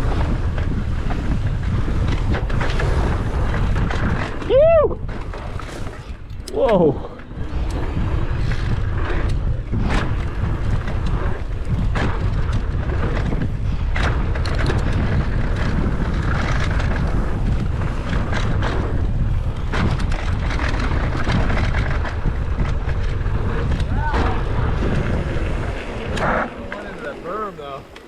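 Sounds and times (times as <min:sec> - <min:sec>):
bike clattering over bumps: 0:00.0 - 0:28.0
bike tyres on dirt: 0:00.0 - 0:28.0
wind buffeting microphone: 0:00.0 - 0:28.0.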